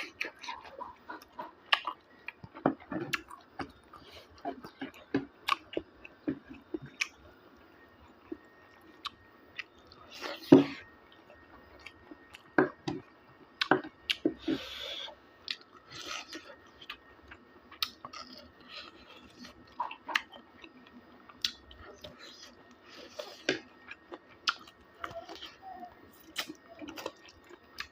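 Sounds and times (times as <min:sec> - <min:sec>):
person chewing food: 0:00.0 - 0:27.9.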